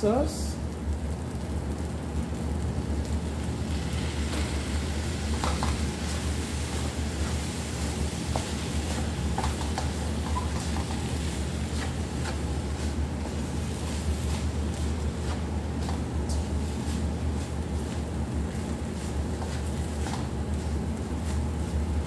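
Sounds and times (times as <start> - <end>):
steady low hum: 0.0 - 22.0
wooden spoon scraping frying food: 4.1 - 21.9.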